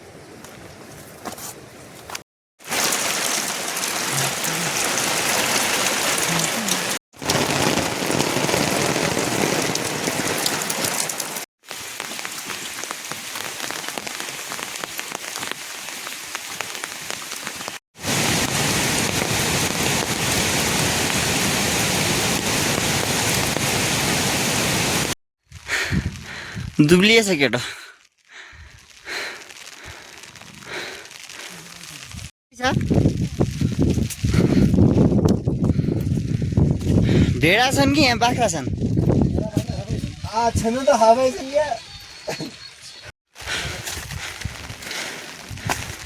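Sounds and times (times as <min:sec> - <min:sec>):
steady rain falling: 0:02.6 - 0:35.5, 0:36.1 - 0:46.0.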